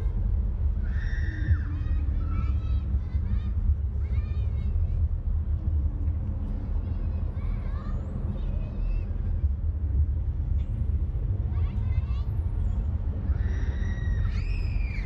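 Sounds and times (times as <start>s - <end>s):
faint voices talking: 0.0s - 15.0s
steady low rumble: 0.0s - 15.0s.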